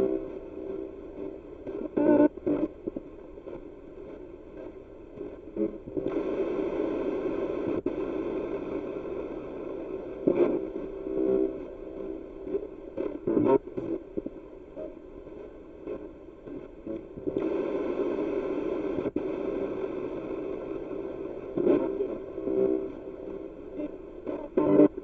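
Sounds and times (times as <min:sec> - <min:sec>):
choppy radio static: 0:00.0 - 0:25.0.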